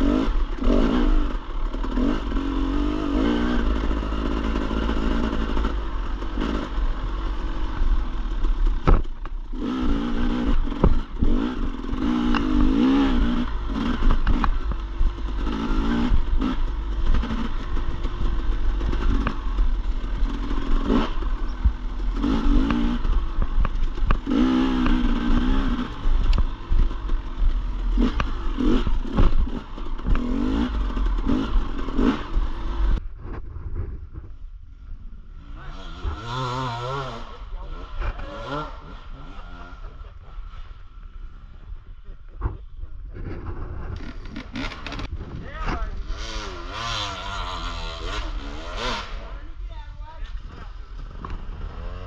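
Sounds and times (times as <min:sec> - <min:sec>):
dirt bike engine revving: 0:00.0 - 0:33.0, 0:35.3 - 0:52.0.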